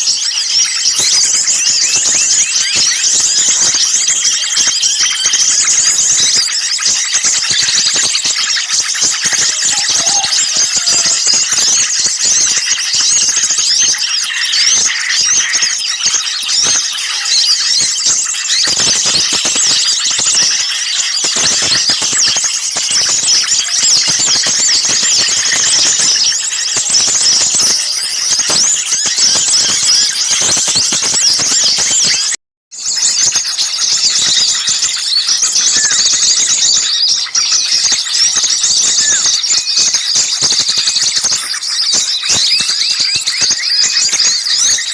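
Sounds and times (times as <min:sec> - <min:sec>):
many small birds twittering: 0:00.0 - 0:44.9.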